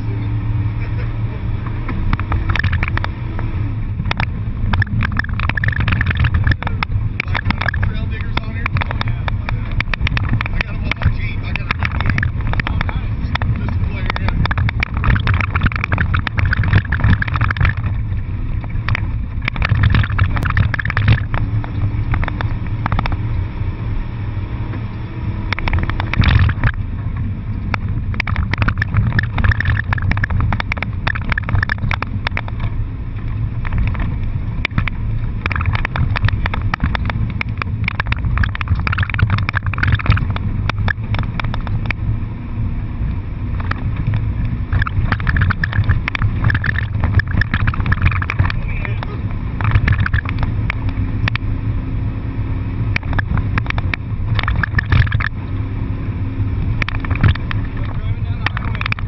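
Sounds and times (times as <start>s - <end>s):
car engine and road rumble: 0.0s - 59.0s
rattling and buffeting: 0.0s - 59.0s.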